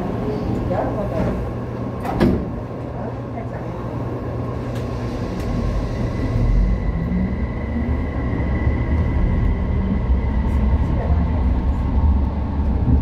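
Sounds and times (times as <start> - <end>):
train rumbling through tunnel: 0.0 - 13.0.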